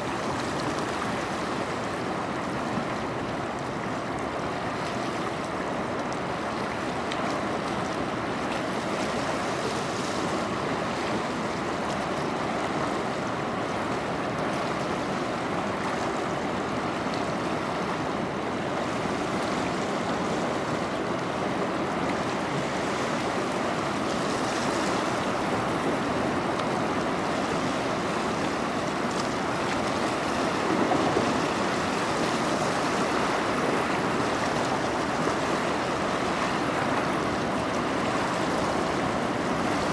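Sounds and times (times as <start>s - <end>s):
river water lapping against wall: 0.0s - 39.9s.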